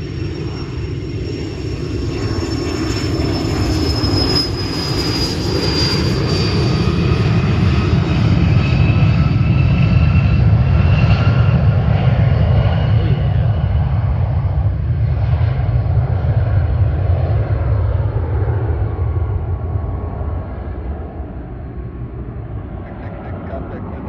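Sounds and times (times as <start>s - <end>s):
jet engines taking off: 0.0s - 24.0s.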